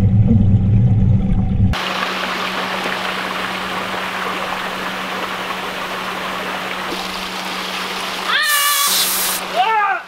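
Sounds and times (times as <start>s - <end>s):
low hum: 0.0s - 8.3s
waterfall pouring into pool: 1.8s - 10.0s.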